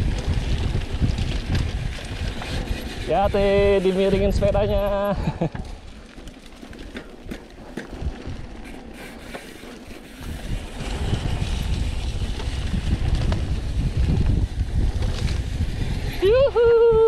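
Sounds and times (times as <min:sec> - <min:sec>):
wind on microphone: 0:00.0 - 0:05.9, 0:07.2 - 0:17.0
bike rattling clicks: 0:00.0 - 0:16.2.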